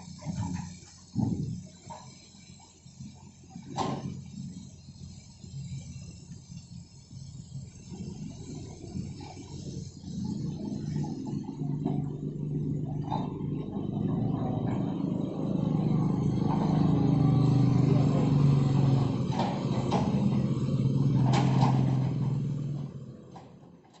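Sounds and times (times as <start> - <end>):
excavator diesel engine: 0.0 - 24.0.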